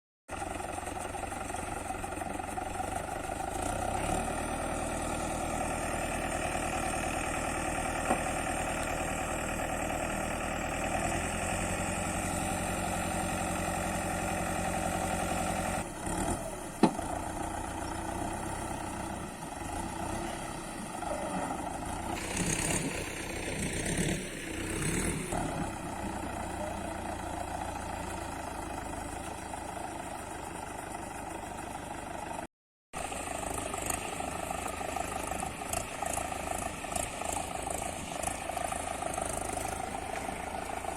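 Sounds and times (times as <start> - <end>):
tractor diesel engine running: 0.3 - 40.9.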